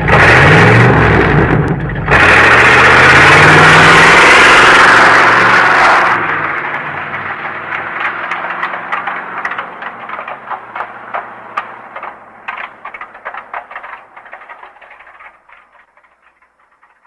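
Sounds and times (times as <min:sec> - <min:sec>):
car engine drone: 0:00.0 - 0:17.0
exhaust pops and crackles: 0:00.0 - 0:17.0.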